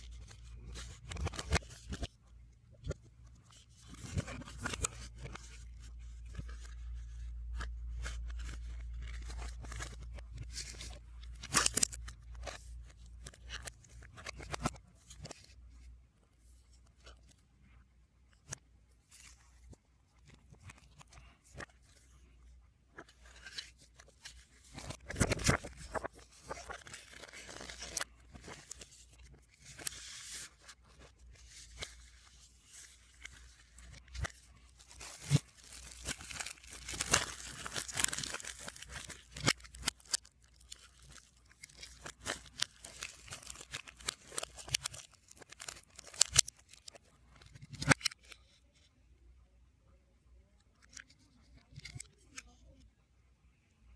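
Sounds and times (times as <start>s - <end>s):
reversed plastic and paper crinkling: 0.0s - 2.2s, 2.8s - 48.9s, 50.8s - 52.8s.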